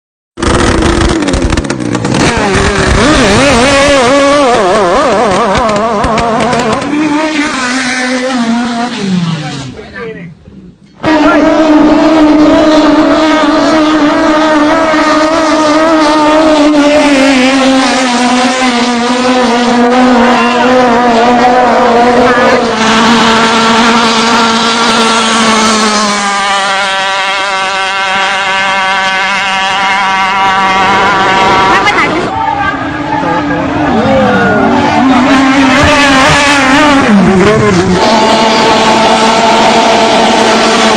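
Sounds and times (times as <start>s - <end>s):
boat engine revving: 0.4s - 10.0s, 10.9s - 40.9s.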